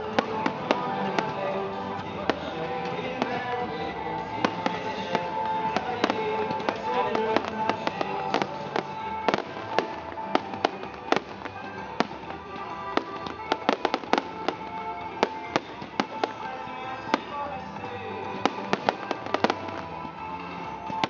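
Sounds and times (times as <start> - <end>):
fireworks bangs: 0.0 - 21.0
fireworks crackle: 0.0 - 21.0
music: 0.0 - 21.0.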